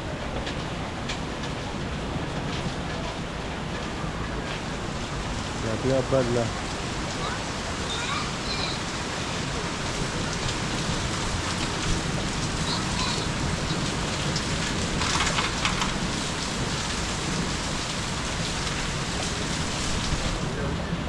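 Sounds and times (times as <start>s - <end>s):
close rain spattering: 0.0s - 21.0s
heavy rain falling: 0.0s - 21.0s.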